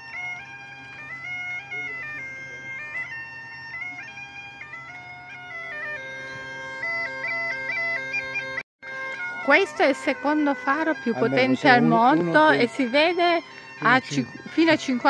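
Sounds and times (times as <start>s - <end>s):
bagpipe melody over drone: 0.0s - 15.0s.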